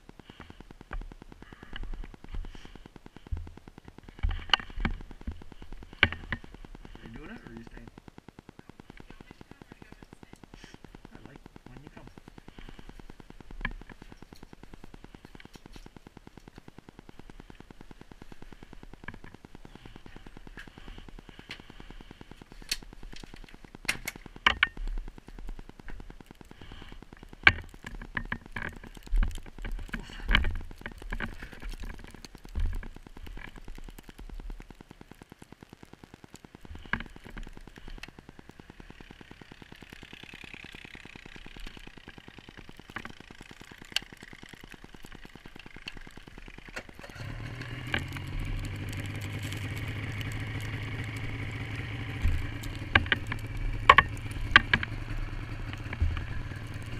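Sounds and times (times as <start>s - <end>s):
snowmobile engine idling: 0.0s - 34.3s, 36.7s - 56.9s
sharp clicks and knocks: 0.0s - 56.9s.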